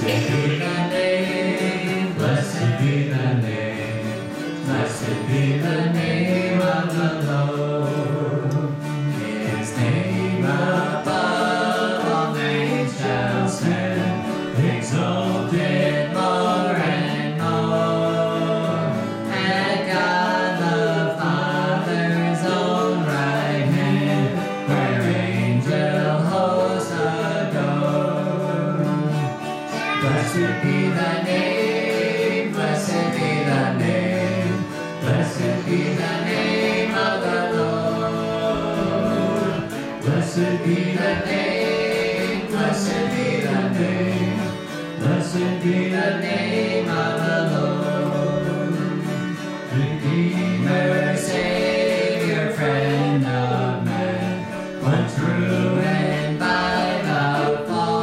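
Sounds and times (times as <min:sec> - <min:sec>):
acoustic guitar: 0:00.0 - 0:58.0
electric guitar: 0:00.0 - 0:58.0
two men singing gospel: 0:00.0 - 0:58.0.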